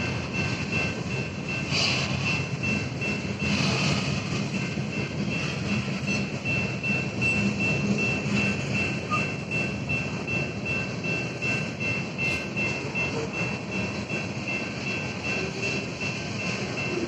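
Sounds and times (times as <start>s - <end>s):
crossing bell dinging: 0.0s - 17.0s
train wheels rumbling on rails: 0.0s - 17.0s.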